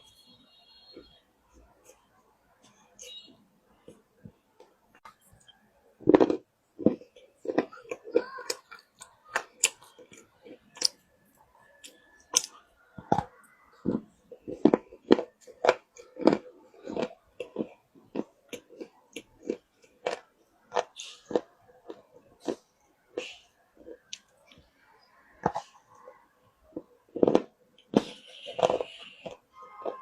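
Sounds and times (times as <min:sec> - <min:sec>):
crunching chewing of wet clay: 0:00.9 - 0:30.0.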